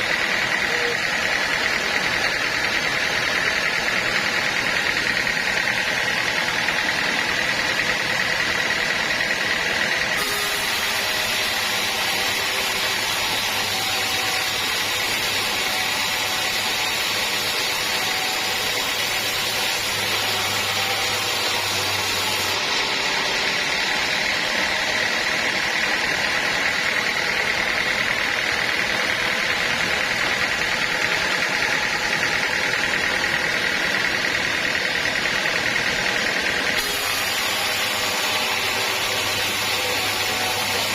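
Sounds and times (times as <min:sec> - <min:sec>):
sawmill running with high whine: 0:00.0 - 0:40.9.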